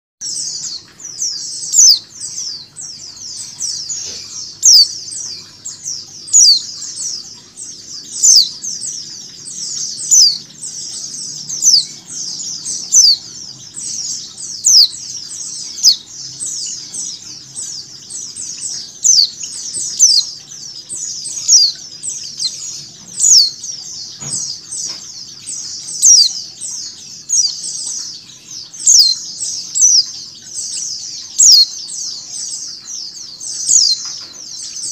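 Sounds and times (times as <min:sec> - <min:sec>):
flock of birds chirping: 0:00.2 - 0:34.9.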